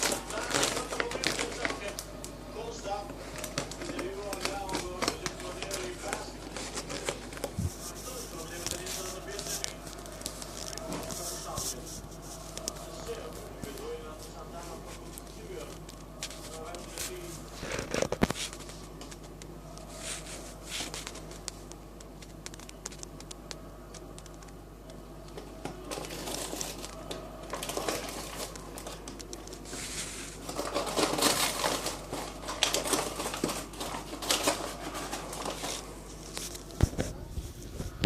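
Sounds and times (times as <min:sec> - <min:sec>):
paper bag crinkling: 0:00.0 - 0:24.6, 0:25.5 - 0:38.0.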